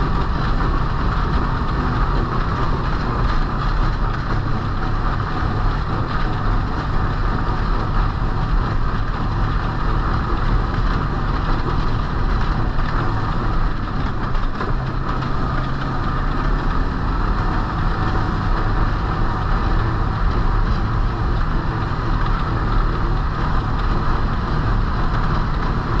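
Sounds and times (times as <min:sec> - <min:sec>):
snowmobile engine droning: 0:00.0 - 0:26.0.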